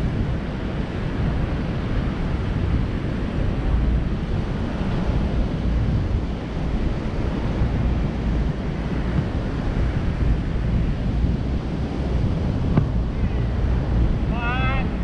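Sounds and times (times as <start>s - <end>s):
surf breaking on sand: 0.0s - 15.0s
wind blowing on microphone: 0.0s - 15.0s.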